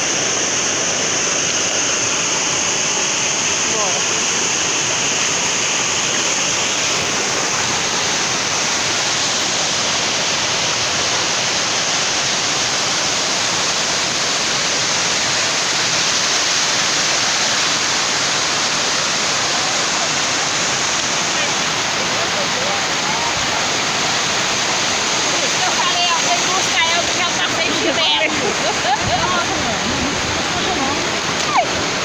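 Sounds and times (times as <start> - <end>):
waterfall pouring: 0.0 - 32.0.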